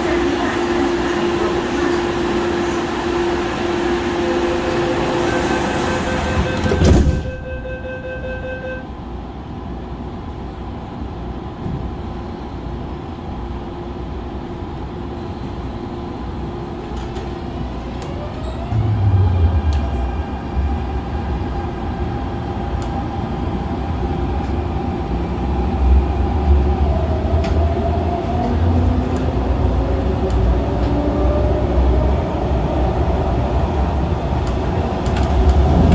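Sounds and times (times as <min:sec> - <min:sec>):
electric train running on rails: 0:00.0 - 0:35.9.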